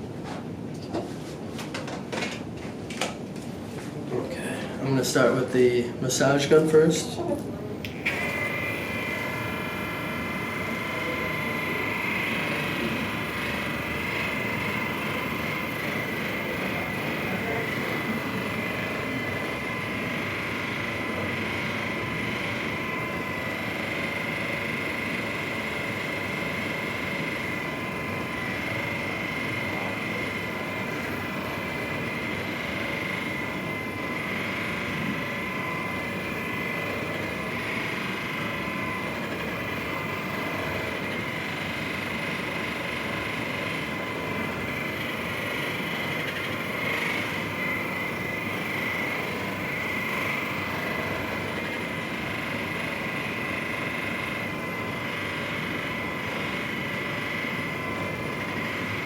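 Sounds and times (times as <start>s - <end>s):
massage gun motor buzzing: 7.8s - 59.0s.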